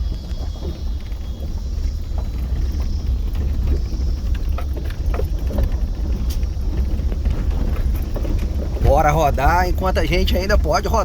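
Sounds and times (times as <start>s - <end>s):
cicadas buzzing: 0.0s - 11.0s
knocks and rattles from bumps: 0.0s - 11.0s
off-road vehicle rumbling: 0.0s - 11.0s.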